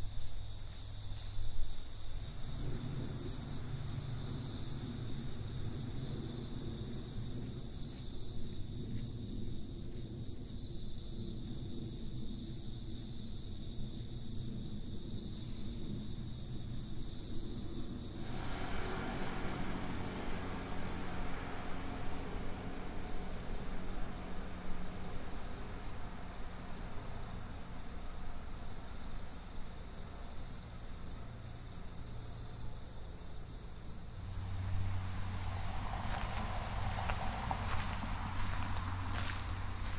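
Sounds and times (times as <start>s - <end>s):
faint low rumble: 0.0s - 12.5s, 14.1s - 31.6s, 33.9s - 39.9s
crickets singing in chorus: 0.0s - 39.9s.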